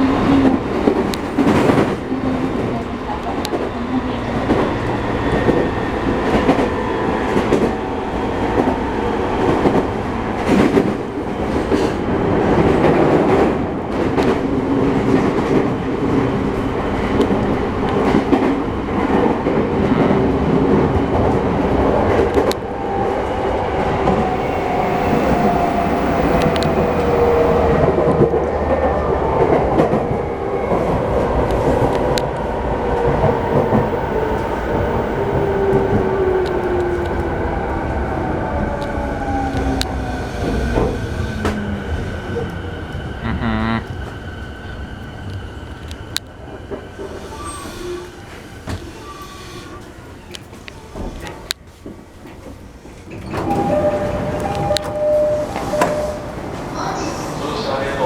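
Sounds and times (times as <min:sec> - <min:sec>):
electric train rumble: 0:00.0 - 0:51.1, 0:51.9 - 0:58.0.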